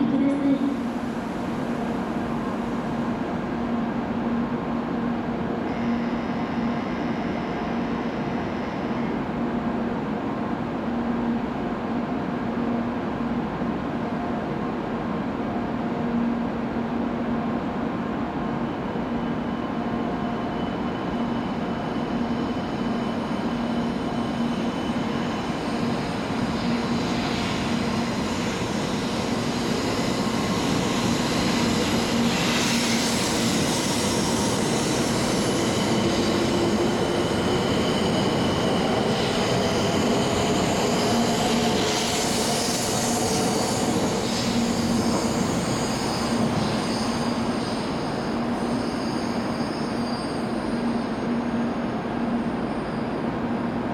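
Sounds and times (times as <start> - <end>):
train hum with rushing wheels: 0.0 - 53.9.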